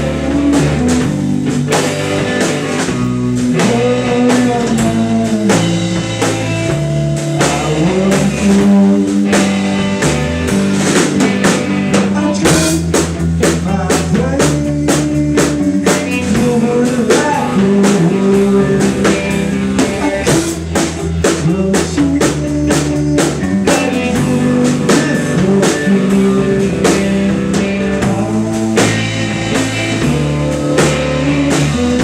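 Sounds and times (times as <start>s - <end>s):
drum kit steady beat: 0.0s - 32.0s
electric guitars: 0.0s - 32.0s.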